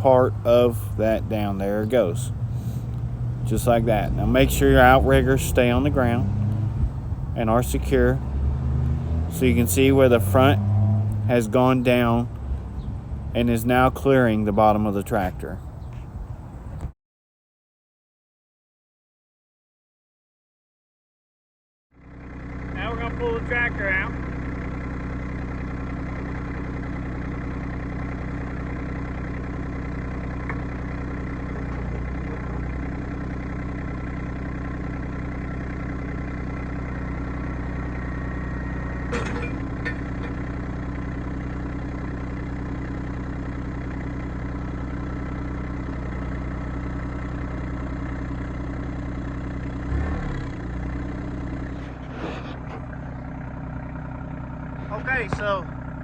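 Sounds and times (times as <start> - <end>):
tractor diesel engine running: 0.0 - 16.9, 22.0 - 56.0.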